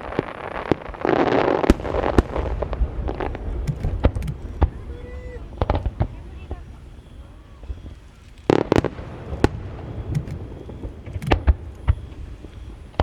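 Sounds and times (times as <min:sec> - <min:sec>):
firework shells bursting: 0:00.0 - 0:13.0
rumbling echo: 0:01.7 - 0:13.0.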